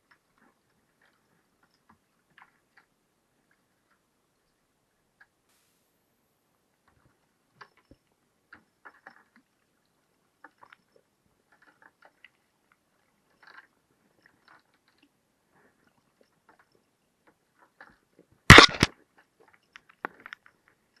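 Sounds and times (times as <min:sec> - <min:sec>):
faint clicks and crackles: 0:00.0 - 0:05.9, 0:06.6 - 0:21.0.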